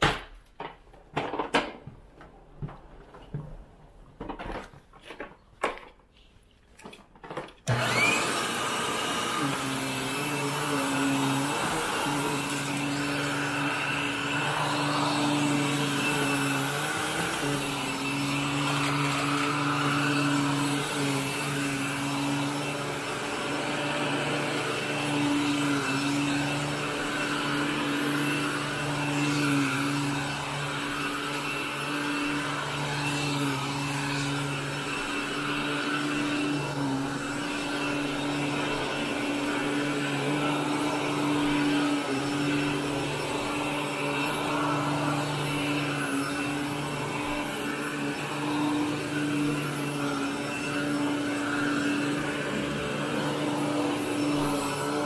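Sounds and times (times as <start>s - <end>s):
vacuum cleaner running on carpet: 7.7s - 55.0s.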